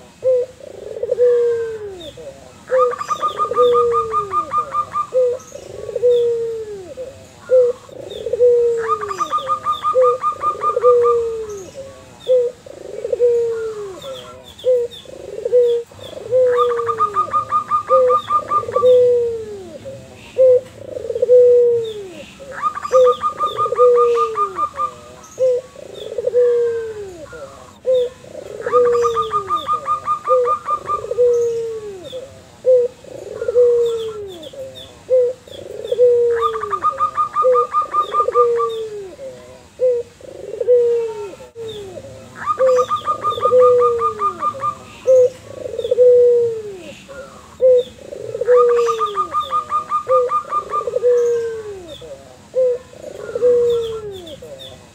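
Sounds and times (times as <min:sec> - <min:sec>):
doves cooing: 0:00.0 - 0:54.9.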